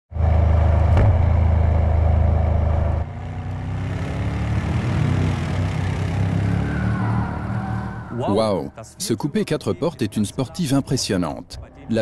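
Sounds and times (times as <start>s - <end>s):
deep car engine running: 0.1s - 10.6s.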